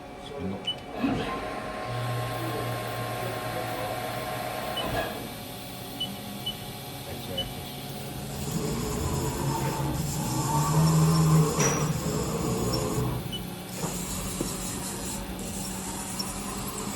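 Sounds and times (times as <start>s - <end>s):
machinery humming: 0.0s - 16.9s.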